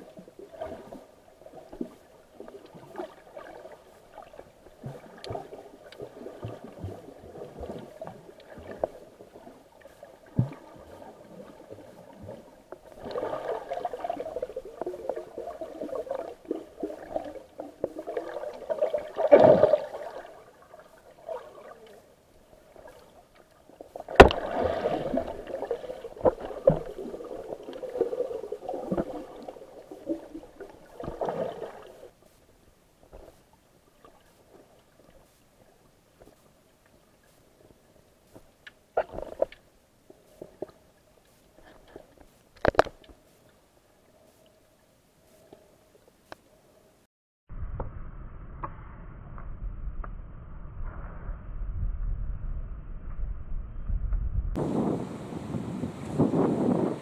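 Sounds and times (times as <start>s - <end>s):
underwater sloshing and gurgling: 0.0s - 47.0s.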